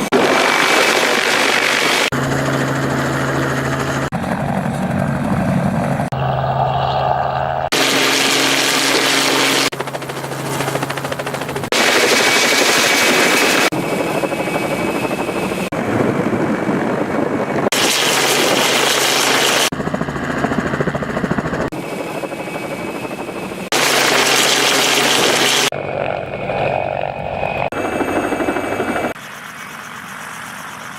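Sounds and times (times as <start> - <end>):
helicopter rotor and engine: 0.0 - 30.9.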